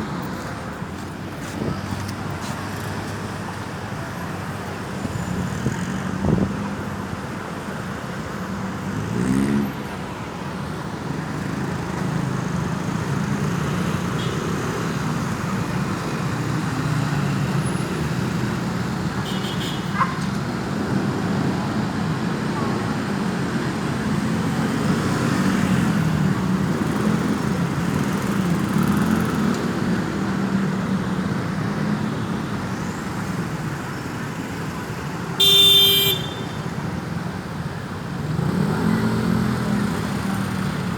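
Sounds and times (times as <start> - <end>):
vehicles passing: 0.0 - 40.9.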